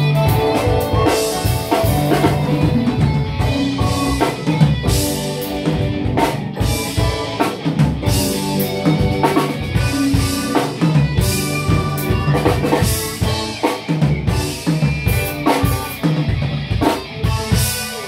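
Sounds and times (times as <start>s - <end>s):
drum kit playing: 0.0s - 18.0s.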